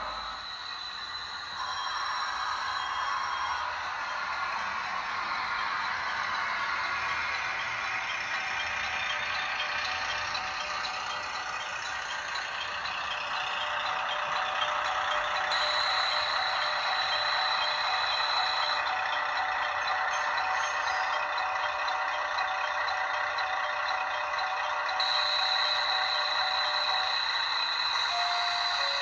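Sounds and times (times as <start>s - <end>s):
diesel railcar sound from small speaker: 0.0s - 29.0s
steady high tone: 0.0s - 29.0s.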